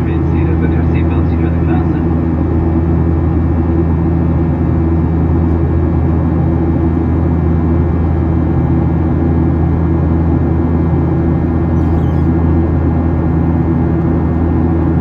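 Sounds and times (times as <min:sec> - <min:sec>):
jet engine hum in cabin: 0:00.0 - 0:15.0.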